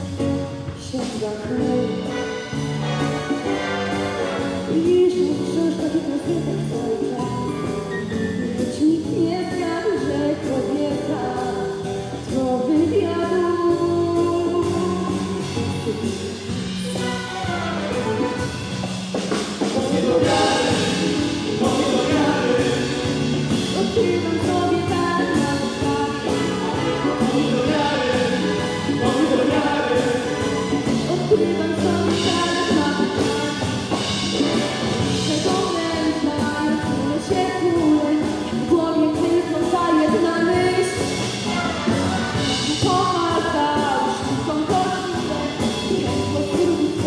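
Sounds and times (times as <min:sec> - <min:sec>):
woman singing: 0:00.8 - 0:02.5, 0:04.6 - 0:18.4, 0:19.8 - 0:41.2, 0:42.1 - 0:47.0.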